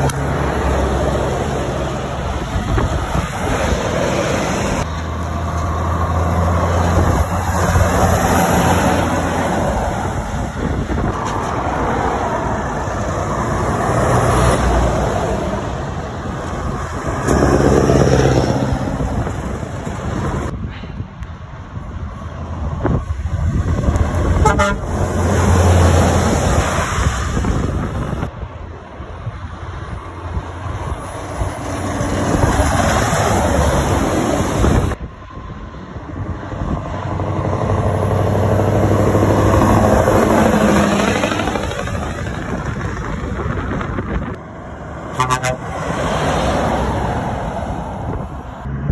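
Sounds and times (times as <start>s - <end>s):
lorry diesel engines passing: 0.0s - 48.9s
tyres on wet road: 0.0s - 48.9s.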